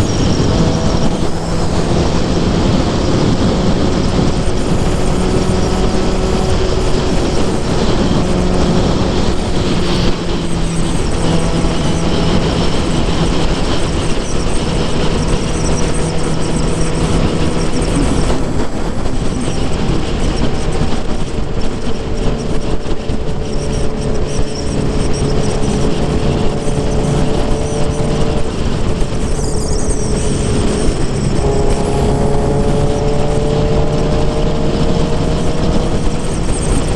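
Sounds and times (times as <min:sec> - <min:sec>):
motorcycle engine cruising: 0:00.0 - 0:36.9
wind and road noise: 0:00.0 - 0:36.9.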